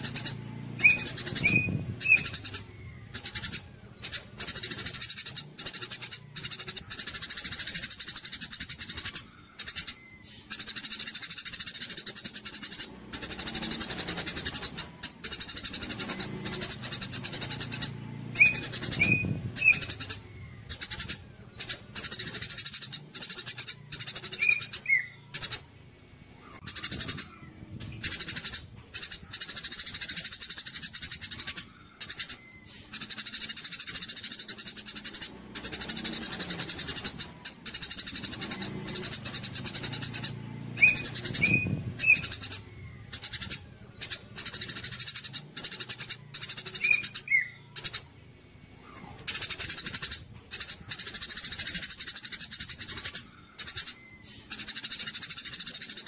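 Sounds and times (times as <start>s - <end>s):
sparrow chattering: 0.0s - 56.0s
whistled bird notes: 0.0s - 56.0s.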